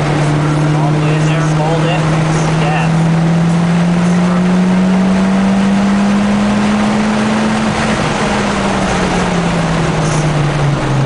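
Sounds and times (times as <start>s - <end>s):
car engine under load: 0.0s - 11.0s.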